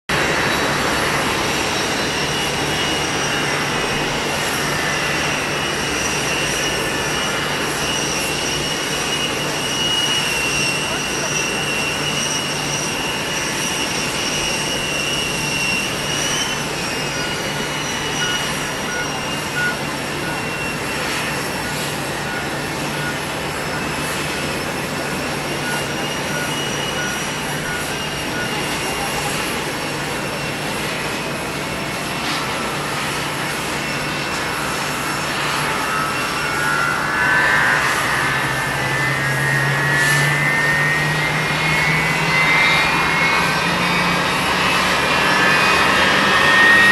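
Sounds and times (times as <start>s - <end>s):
jet engines whining: 0.1s - 46.9s.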